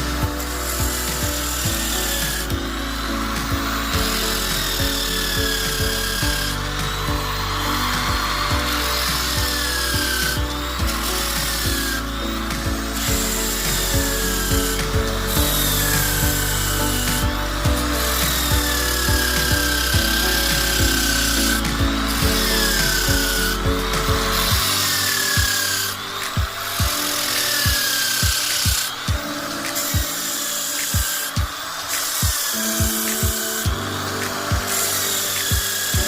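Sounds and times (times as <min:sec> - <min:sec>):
background music with steady beat: 0:00.0 - 0:36.0
drill sanding disc grinding wood: 0:00.0 - 0:36.0.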